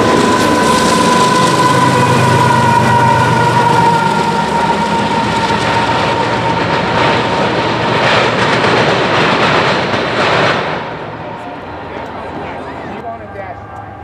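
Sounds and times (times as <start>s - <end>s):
train wheels clattering on track: 0.0s - 12.4s
freight train rumbling: 0.0s - 14.0s.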